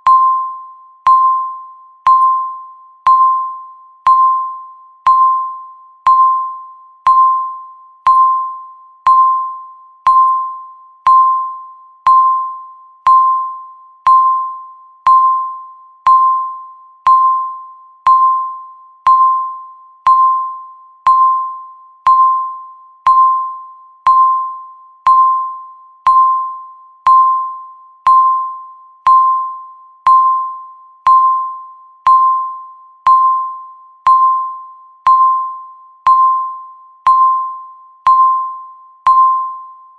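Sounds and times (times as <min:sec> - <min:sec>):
timer beeps: 0:00.0 - 0:39.9.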